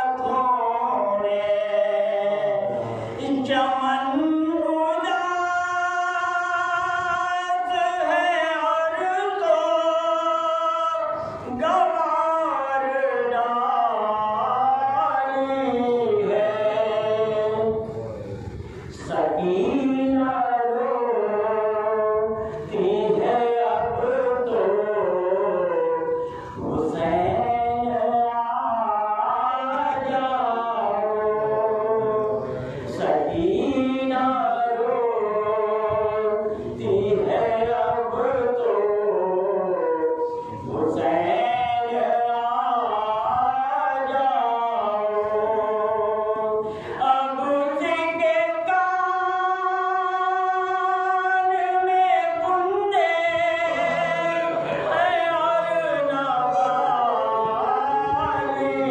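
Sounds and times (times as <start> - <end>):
man singing through loudspeaker: 0.0 - 58.9.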